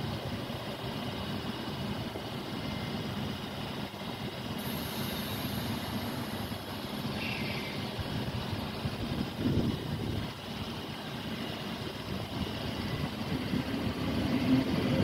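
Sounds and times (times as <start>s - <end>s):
train engines idling: 0.0s - 15.0s.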